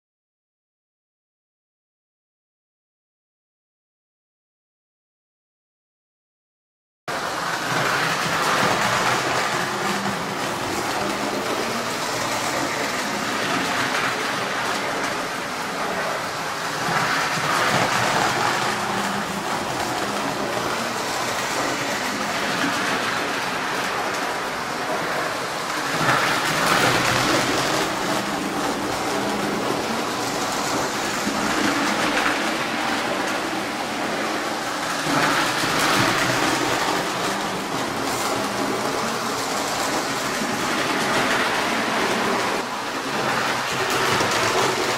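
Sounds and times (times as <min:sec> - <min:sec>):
toy train motor and wheels rumbling: 0:07.1 - 0:44.9.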